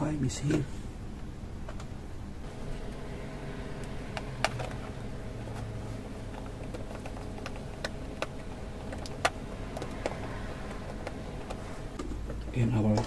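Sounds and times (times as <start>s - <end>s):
steady low hum: 0.8s - 12.8s.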